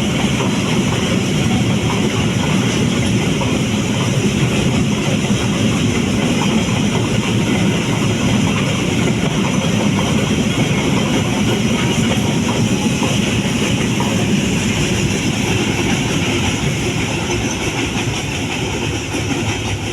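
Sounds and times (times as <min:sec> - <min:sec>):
train wheels clattering over rail joints: 0:00.0 - 0:19.9.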